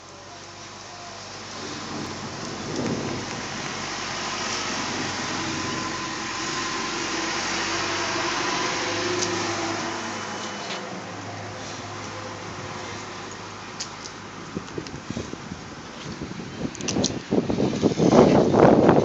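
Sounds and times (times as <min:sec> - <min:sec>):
diesel engine running: 0:00.0 - 0:16.1
steady rushing noise: 0:01.3 - 0:19.0.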